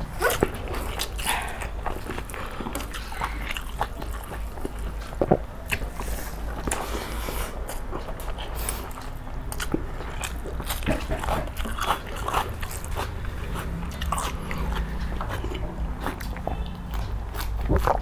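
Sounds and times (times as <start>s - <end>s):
food being bitten and chewed: 0.0s - 18.0s.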